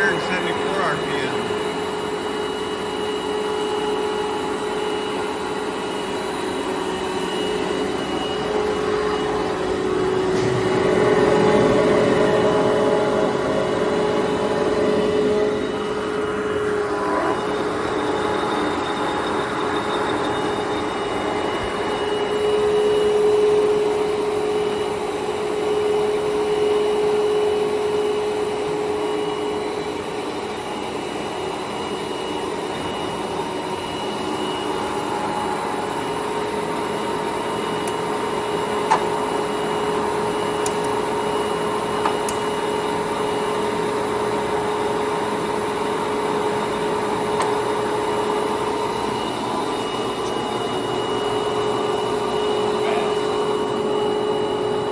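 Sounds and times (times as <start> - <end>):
lathe drone with gear whine: 0.0 - 54.9.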